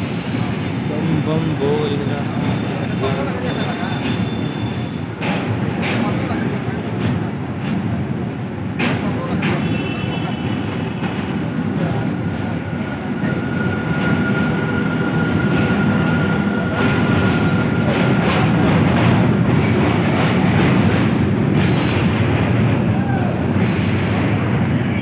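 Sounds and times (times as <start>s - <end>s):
train rumbling over bridge: 0.0s - 25.0s
train wheels clacking: 0.0s - 25.0s.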